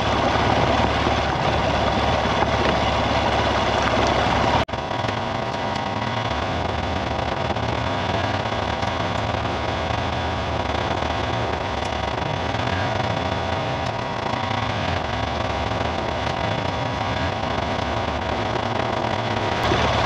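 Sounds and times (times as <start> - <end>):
tyres on gravel track: 0.0 - 20.0
vehicle engine: 0.0 - 20.0.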